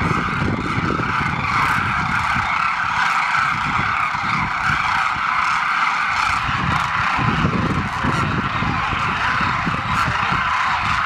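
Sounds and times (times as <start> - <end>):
flock of cranes calling: 0.0 - 11.0.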